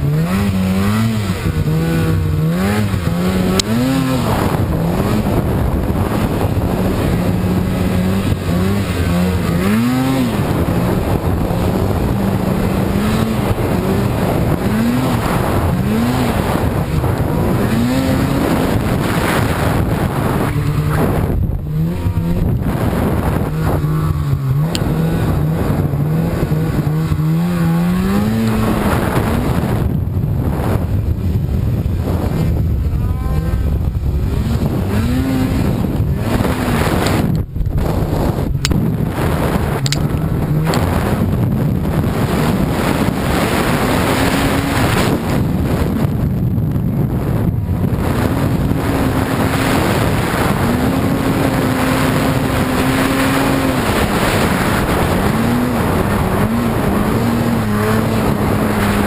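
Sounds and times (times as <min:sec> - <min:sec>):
snowmobile engine revving: 0:00.0 - 0:59.0
steady rushing noise: 0:00.0 - 0:59.0.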